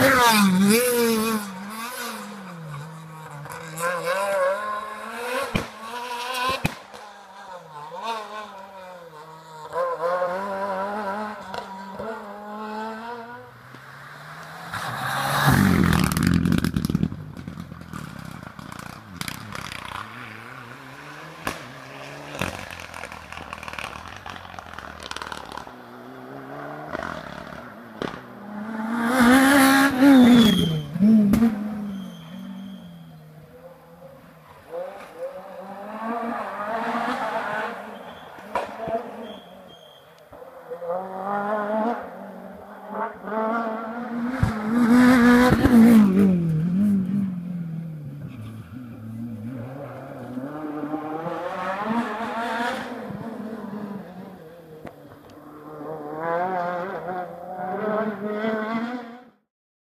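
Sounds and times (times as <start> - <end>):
cars passing loudly: 0.0 - 59.4
rally car engines revving: 0.0 - 59.4.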